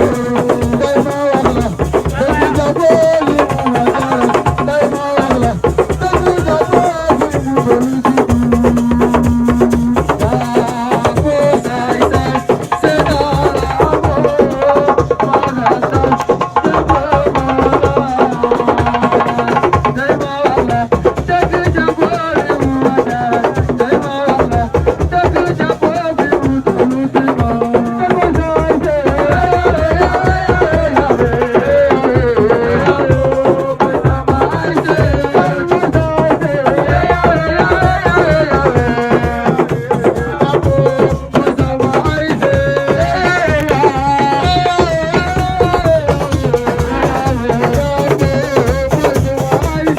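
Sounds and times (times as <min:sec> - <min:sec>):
fast dense drumming: 0:00.0 - 0:49.9.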